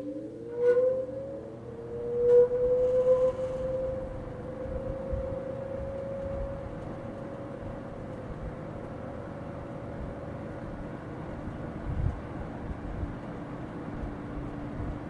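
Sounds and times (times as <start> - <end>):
box fan motor hum: 0.0 - 15.0.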